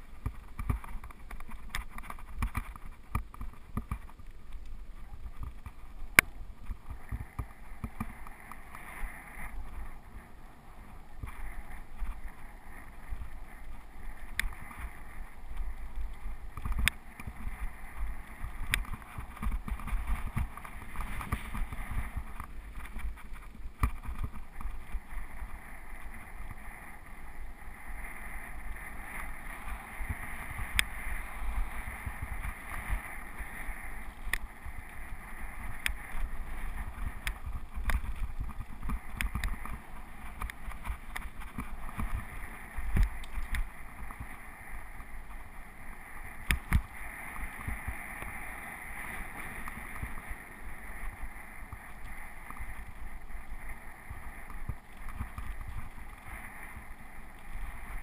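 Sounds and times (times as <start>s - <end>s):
bike tyres rumbling on gravel: 0.0s - 58.0s
wind buffeting microphone: 5.0s - 58.0s.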